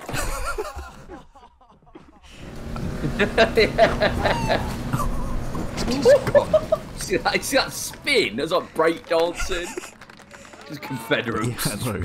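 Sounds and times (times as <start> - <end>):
people's voices: 2.3 - 12.0.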